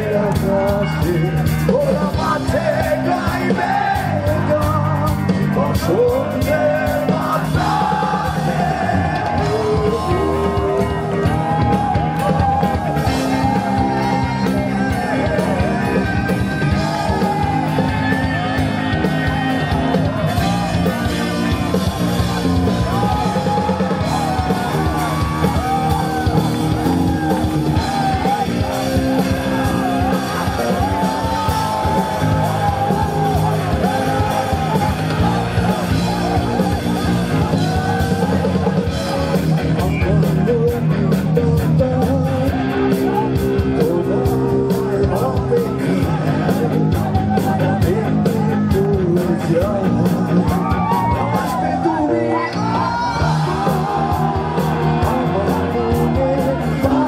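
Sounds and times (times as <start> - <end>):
man singing: 0.0 - 11.7, 13.4 - 19.9, 27.2 - 57.0
live rock band playing: 0.0 - 57.0.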